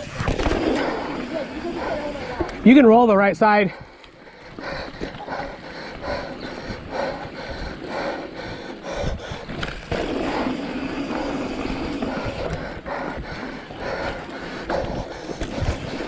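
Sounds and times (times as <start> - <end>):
bike rattling over trail: 0.0 - 3.6, 4.2 - 16.0
bike tyres on dirt: 0.0 - 16.0.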